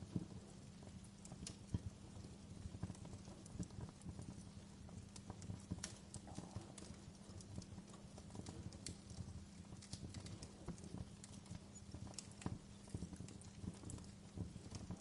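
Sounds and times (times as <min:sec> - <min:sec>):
fire low rumble: 0:00.0 - 0:15.0
wood fire crackling: 0:00.0 - 0:15.0.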